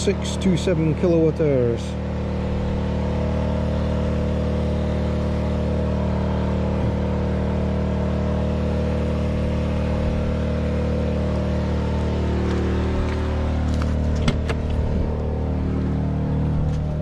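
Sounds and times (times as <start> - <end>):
generator engine drone: 0.0 - 17.0.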